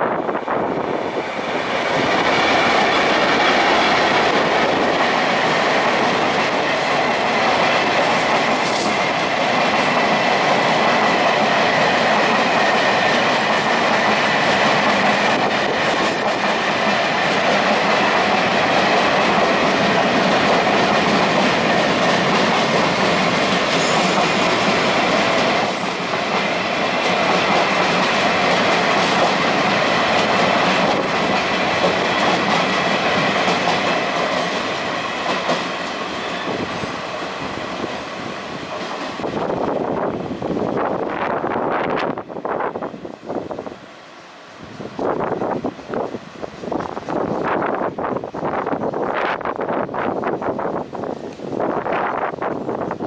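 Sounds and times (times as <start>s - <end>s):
freight train passing: 0.0s - 53.0s.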